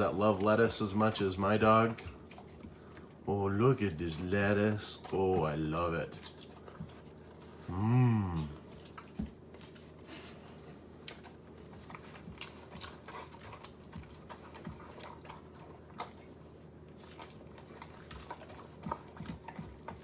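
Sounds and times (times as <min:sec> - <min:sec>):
dog crunching lettuce: 0:00.0 - 0:20.0.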